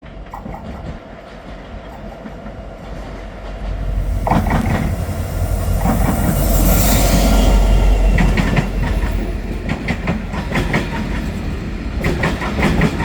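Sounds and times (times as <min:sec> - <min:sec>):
freight train rumble: 0:00.0 - 0:13.0
wheels clattering on rails: 0:00.1 - 0:13.0.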